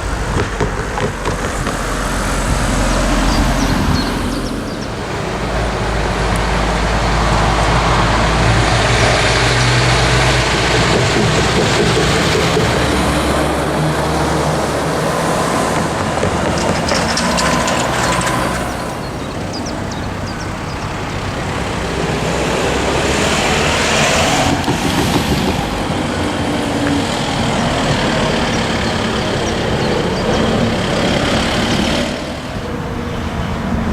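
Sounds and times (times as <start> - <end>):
heavy vehicle engine hum: 0.0 - 33.9
rushing noise: 0.0 - 33.9.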